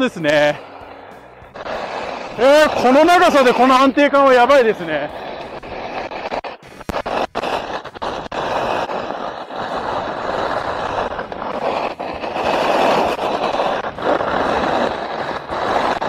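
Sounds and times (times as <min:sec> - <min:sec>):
skis scraping on snow: 0:00.0 - 0:16.0.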